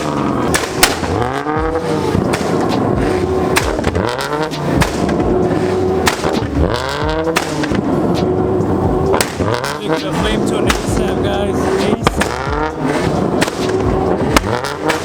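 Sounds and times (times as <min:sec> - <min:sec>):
car engine revving: 0:00.0 - 0:15.0
exhaust pops and bangs: 0:00.0 - 0:15.0.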